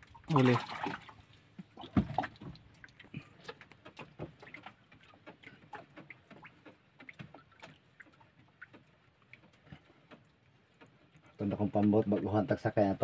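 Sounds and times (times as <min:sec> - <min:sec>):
faint clicks and taps on wooden boat: 0:01.4 - 0:13.0.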